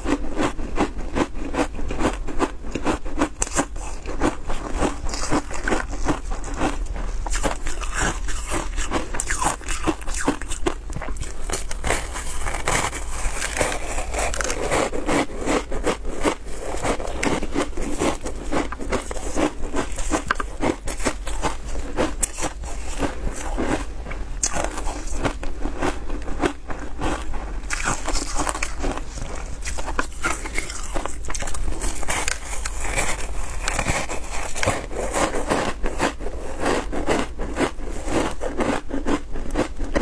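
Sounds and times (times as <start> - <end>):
crunching shaved ice: 0.0 - 40.0.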